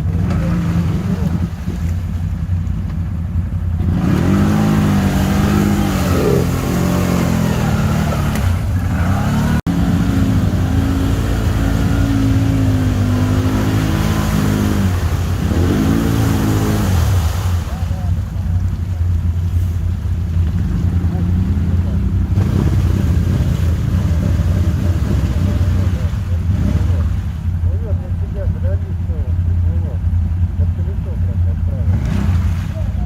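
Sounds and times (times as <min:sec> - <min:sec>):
atv engine revving: 0:00.0 - 0:33.0
low rumble: 0:00.0 - 0:33.0.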